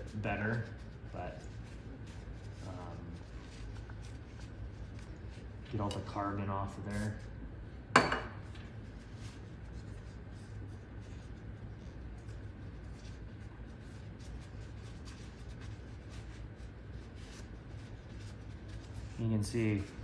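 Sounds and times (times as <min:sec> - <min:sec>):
paper towel scrubbing: 0:00.0 - 0:07.4, 0:08.6 - 0:20.0.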